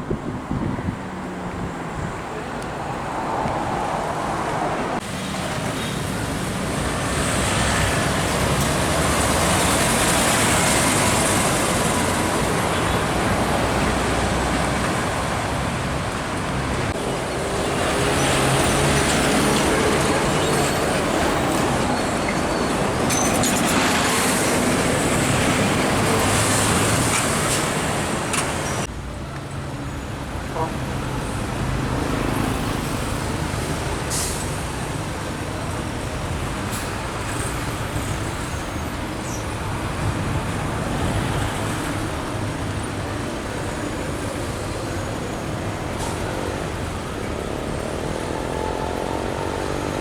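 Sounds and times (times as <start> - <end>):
heavy vehicles passing: 0.0 - 50.0.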